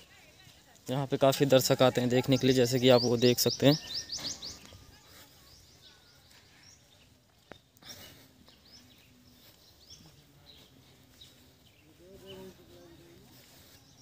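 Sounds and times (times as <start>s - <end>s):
faint bird chirps: 2.5s - 14.0s.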